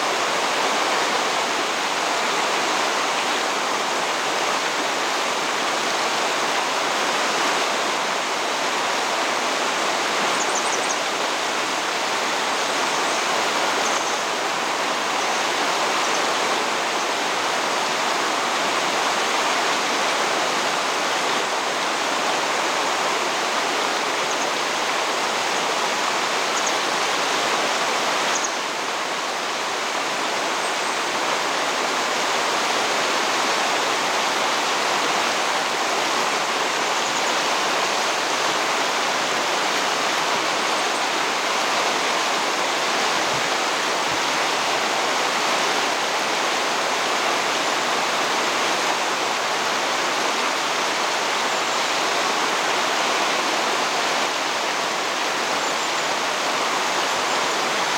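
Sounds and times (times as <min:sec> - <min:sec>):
mountain stream rushing: 0:00.0 - 0:57.9.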